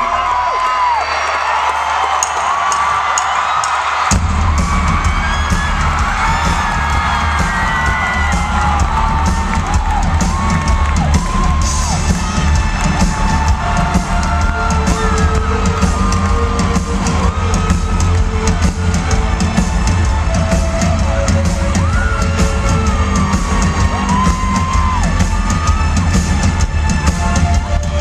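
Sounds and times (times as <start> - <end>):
drums and bass beat: 2.0 - 28.0
live rock band: 4.1 - 28.0.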